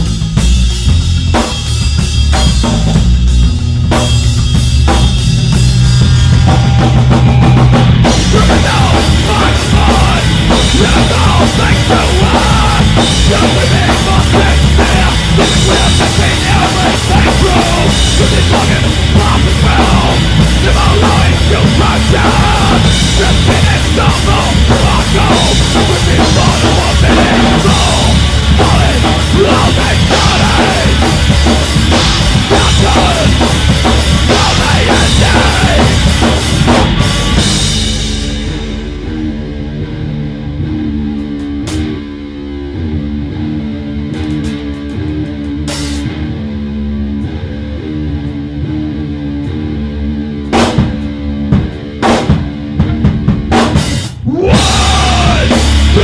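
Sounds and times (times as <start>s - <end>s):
drum kit: 0.0s - 48.2s, 49.3s - 56.0s
heavy rock music: 0.0s - 56.0s.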